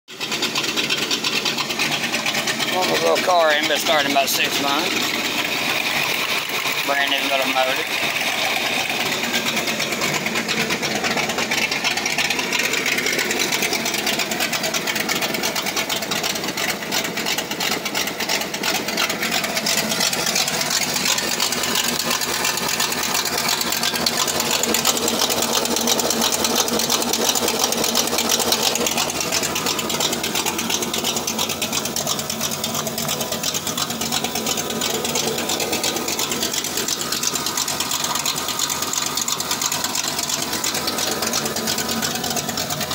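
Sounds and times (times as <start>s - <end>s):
fast even engine ticking: 0.1s - 42.9s
vee eight engine idling: 0.1s - 42.9s.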